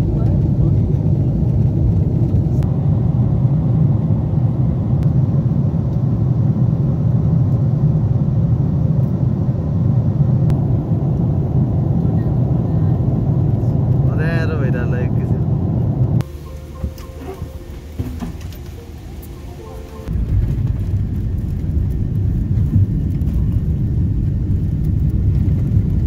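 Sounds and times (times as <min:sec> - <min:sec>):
airliner cabin engine drone: 0:00.0 - 0:26.0.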